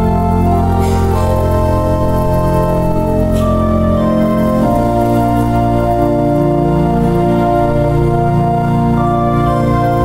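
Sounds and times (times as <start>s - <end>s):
organ playing a hymn: 0.0s - 10.0s.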